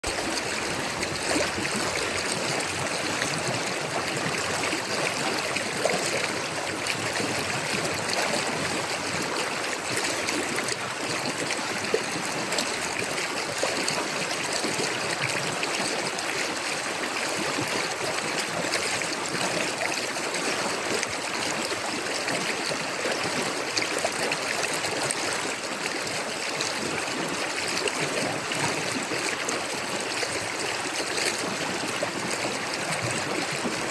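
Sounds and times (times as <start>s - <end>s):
river flowing over rocks: 0.0s - 33.9s.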